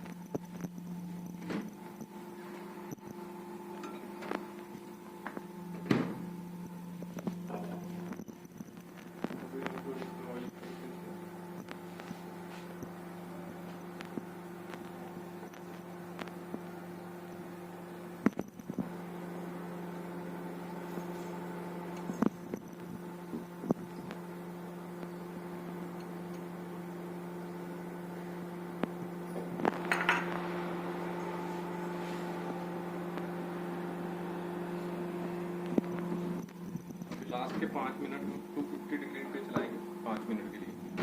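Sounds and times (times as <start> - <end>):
microwave oven humming: 0.0 - 41.0.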